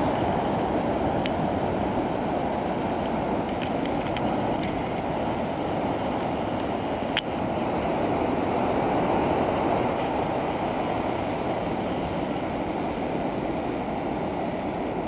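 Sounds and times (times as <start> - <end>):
surf breaking on rocky shore: 0.0 - 15.0.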